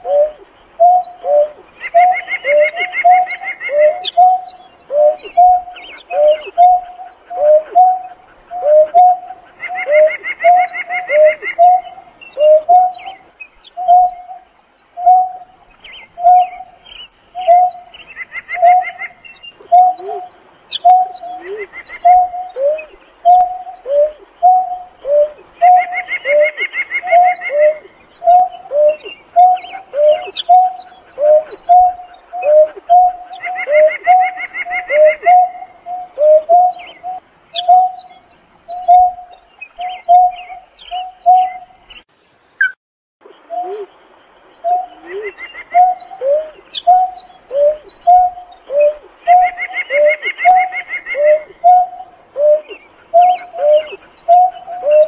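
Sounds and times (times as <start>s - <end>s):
bird low hoots: 0.0s - 14.4s, 15.0s - 41.9s, 44.6s - 55.0s.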